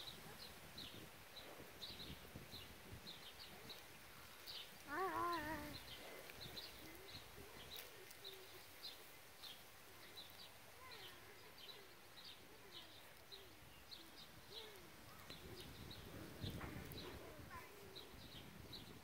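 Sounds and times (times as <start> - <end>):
small bird chirping: 0.0 - 17.2.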